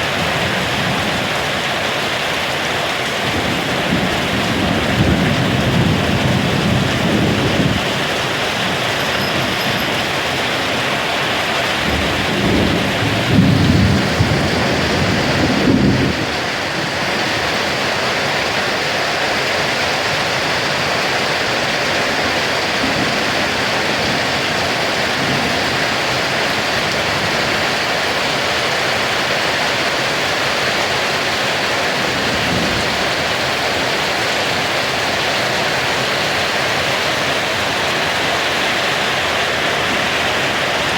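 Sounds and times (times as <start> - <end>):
thunder rumbling: 0.0 - 29.5, 30.9 - 40.9
heavy rain pouring: 0.0 - 40.9.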